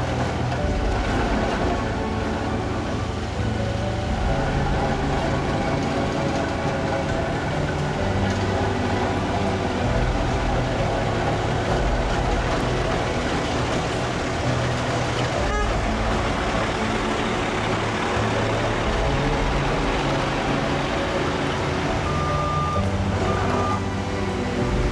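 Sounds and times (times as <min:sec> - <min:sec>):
asphalt grinding: 0:00.0 - 0:24.9
diesel engine under load: 0:00.0 - 0:24.9.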